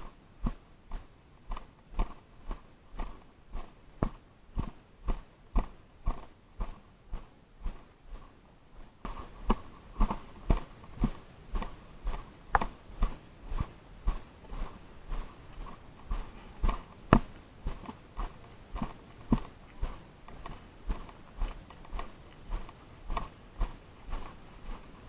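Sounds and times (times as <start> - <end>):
footsteps walking: 0.0 - 25.0.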